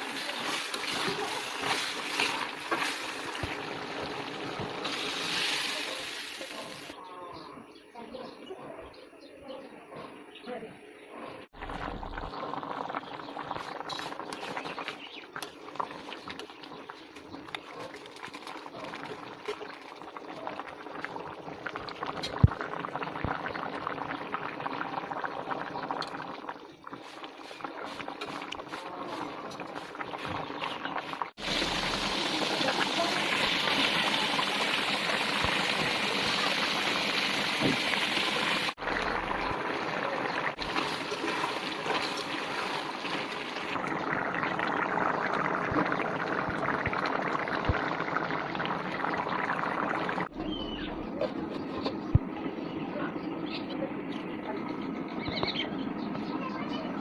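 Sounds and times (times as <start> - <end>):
curry bubbling and sizzling: 0.0 - 7.0, 11.6 - 50.7.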